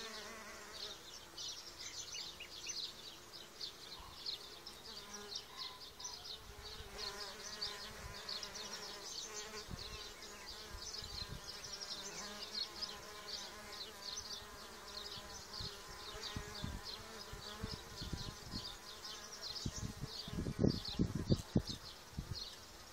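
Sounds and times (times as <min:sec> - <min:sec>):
bees buzzing in flight: 0:00.0 - 0:05.5, 0:06.4 - 0:22.9.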